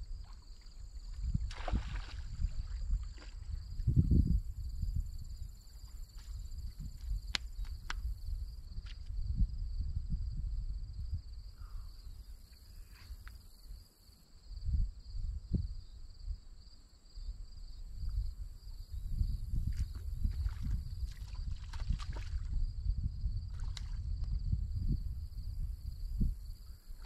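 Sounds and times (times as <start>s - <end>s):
wind buffeting microphone: 0.0s - 12.3s, 14.5s - 16.4s, 17.6s - 27.0s.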